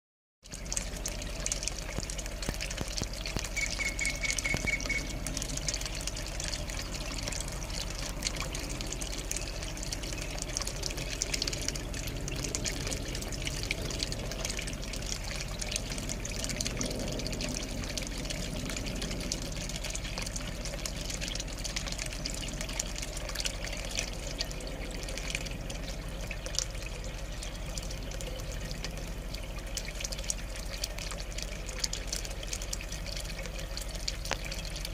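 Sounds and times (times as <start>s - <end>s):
trickle of running water: 0.4s - 34.9s.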